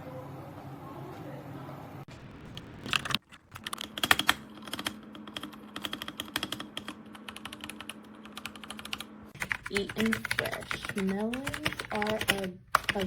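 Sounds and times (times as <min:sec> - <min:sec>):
mechanical keyboard typing: 0:02.4 - 0:13.0.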